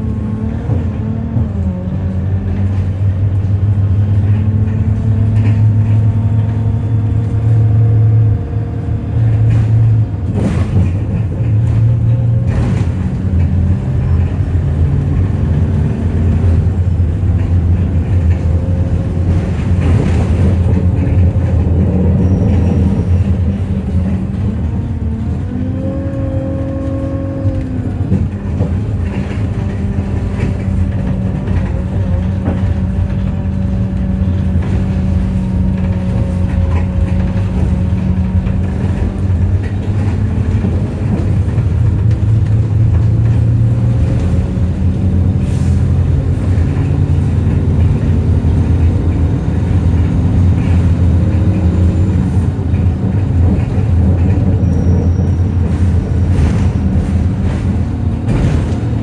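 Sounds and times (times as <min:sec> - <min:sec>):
bus engine droning: 0:00.0 - 0:59.0
higher engine tones rising: 0:00.0 - 0:59.0.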